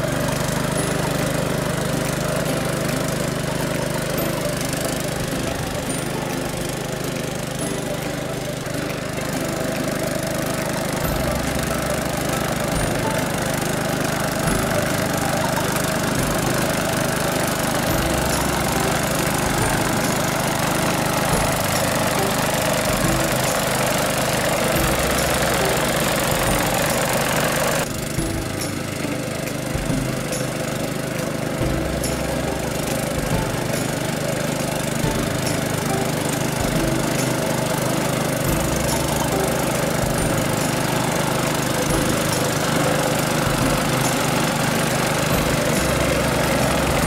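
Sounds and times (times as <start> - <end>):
mower petrol engine running: 0.0 - 47.0.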